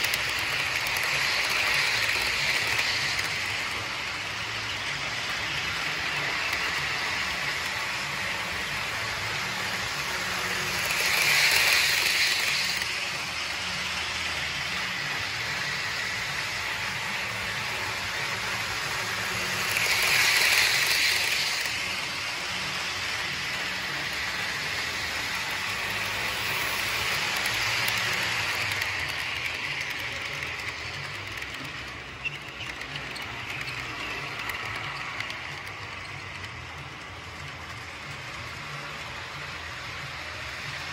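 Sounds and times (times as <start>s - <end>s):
model train whirring and rattling: 0.0s - 40.9s
passing model passenger train: 0.0s - 40.9s.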